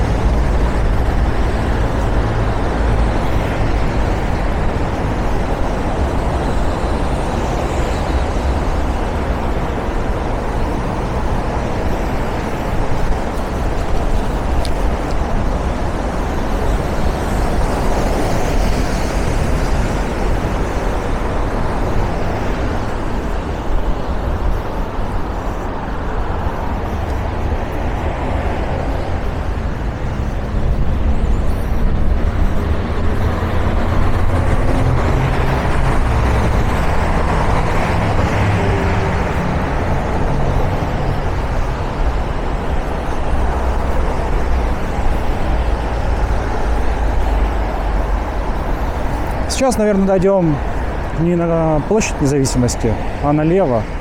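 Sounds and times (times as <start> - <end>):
cars passing: 0.0 - 54.0
heavier engine hum: 0.0 - 54.0.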